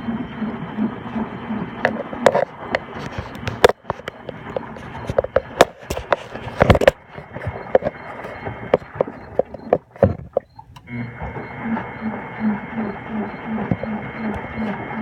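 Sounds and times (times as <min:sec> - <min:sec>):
washing machine pulsing hum: 0:00.0 - 0:15.0.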